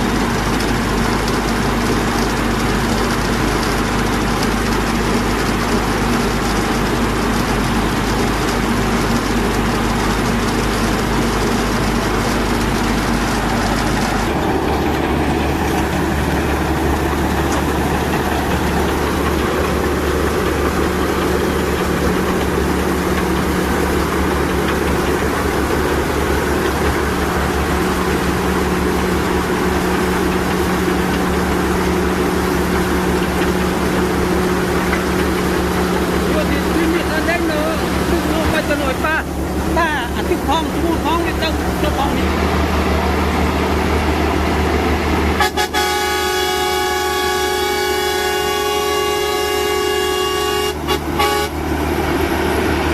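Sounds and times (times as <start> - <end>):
heavy vehicle engine running: 0.0 - 52.9.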